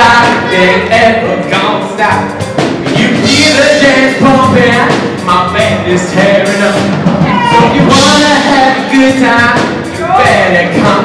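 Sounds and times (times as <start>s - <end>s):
horn section playing upbeat music: 0.0s - 11.0s.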